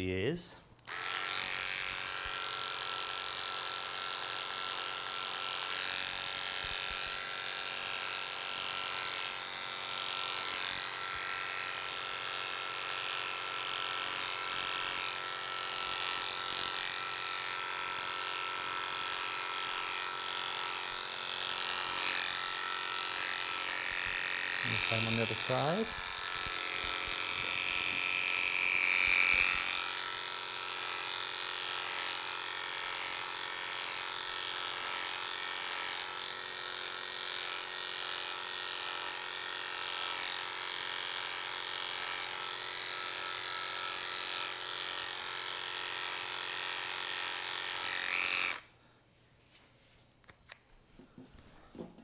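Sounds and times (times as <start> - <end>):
electric clippers humming: 0.8 - 48.8.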